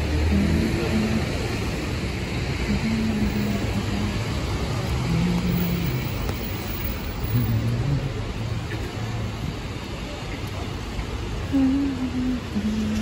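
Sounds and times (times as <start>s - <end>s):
low traffic hum: 0.0s - 13.0s
tyres hissing on wet pavement: 0.0s - 13.0s.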